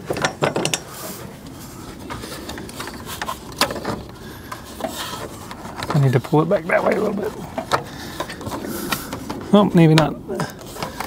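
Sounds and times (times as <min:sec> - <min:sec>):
handling clicks and knocks: 0:00.0 - 0:00.9, 0:02.1 - 0:11.0.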